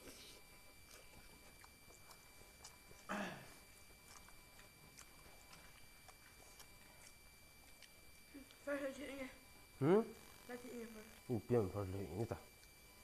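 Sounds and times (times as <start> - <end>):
people chewing and eating: 0.0 - 10.4, 11.1 - 13.0.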